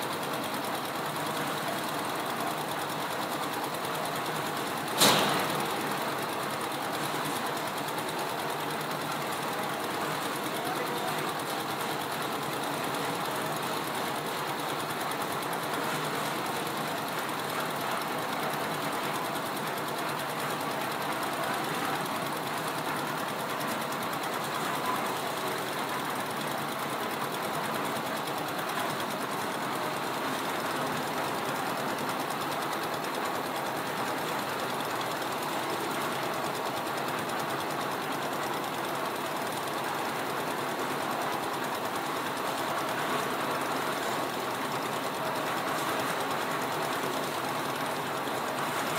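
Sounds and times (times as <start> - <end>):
concrete mixer diesel engine running: 0.1 - 48.9.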